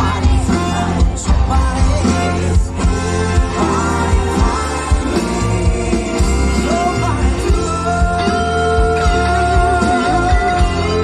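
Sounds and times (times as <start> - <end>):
loud dance-band music: 0.0 - 11.0
person singing: 0.0 - 11.0.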